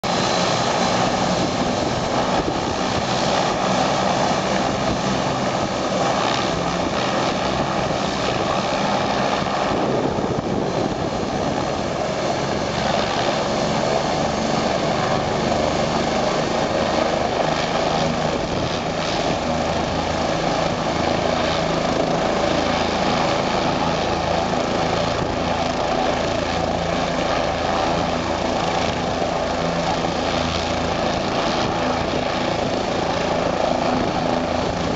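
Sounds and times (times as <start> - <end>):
helicopter turbine whine and rotors: 0.0 - 34.9.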